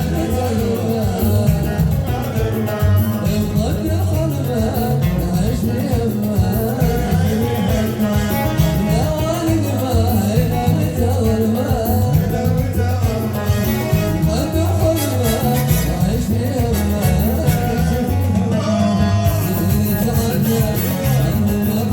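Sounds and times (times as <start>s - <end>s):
electronic keyboard melody: 0.0s - 21.9s
fast drum beat: 0.0s - 21.9s
man singing: 0.0s - 21.9s.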